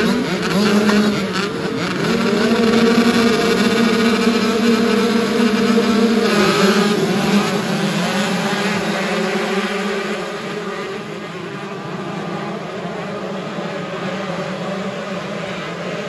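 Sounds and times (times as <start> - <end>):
racing motorcycle engine: 0.0 - 16.0.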